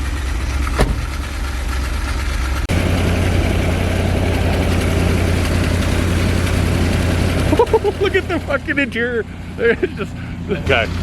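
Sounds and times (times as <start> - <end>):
van engine idling: 0.4 - 11.0.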